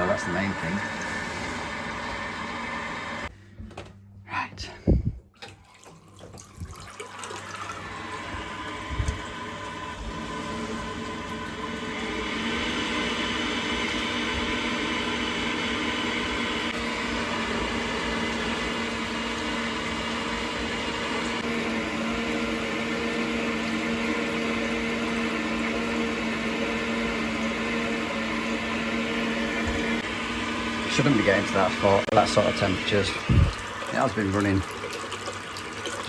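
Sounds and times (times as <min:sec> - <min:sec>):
boiler fan and burner hum: 0:06.5 - 0:36.0.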